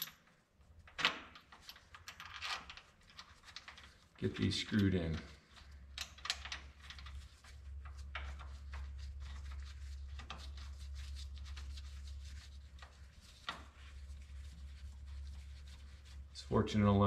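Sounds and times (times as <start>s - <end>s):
glove rubbing on metal: 0.7s - 5.9s, 6.6s - 16.5s
steady low hum: 2.8s - 17.0s.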